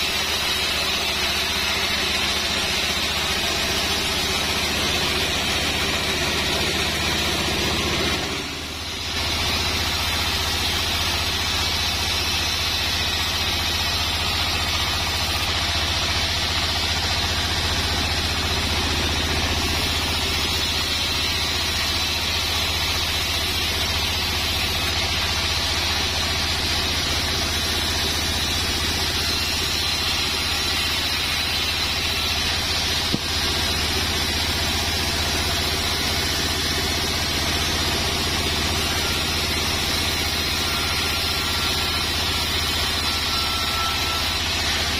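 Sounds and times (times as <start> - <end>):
band saw cutting wood: 0.0 - 44.9.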